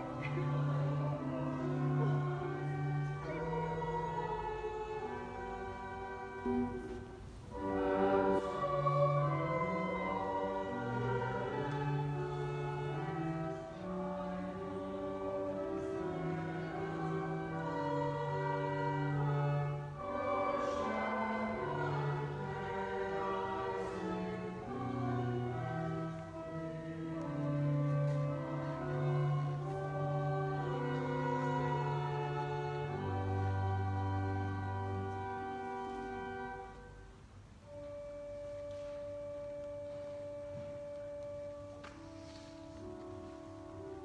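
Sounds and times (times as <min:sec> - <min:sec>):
choir singing a hymn: 0:00.0 - 0:36.8.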